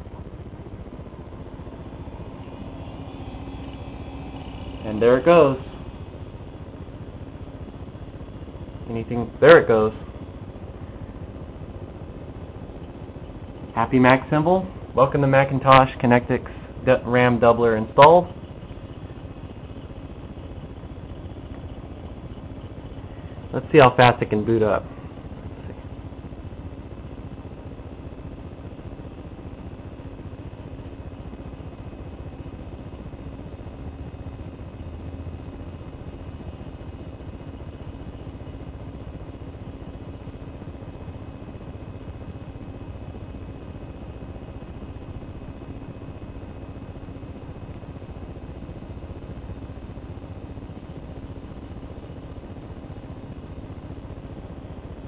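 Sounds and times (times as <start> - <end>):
computer fan and disk whir: 0.0 - 55.0.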